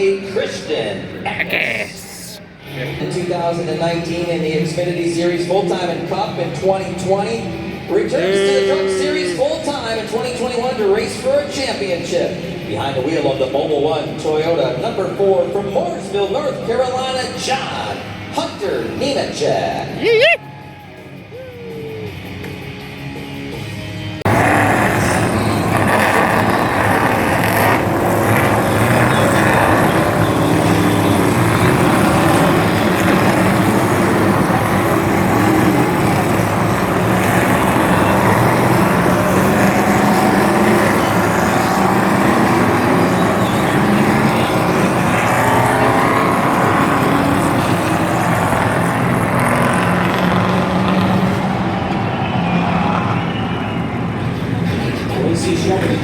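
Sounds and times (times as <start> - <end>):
race truck engines roaring: 0.0 - 21.4, 22.0 - 56.0.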